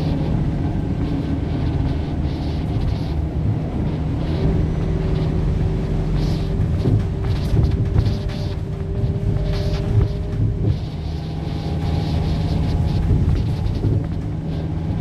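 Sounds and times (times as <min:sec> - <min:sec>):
bus diesel engine drone: 0:00.0 - 0:15.0.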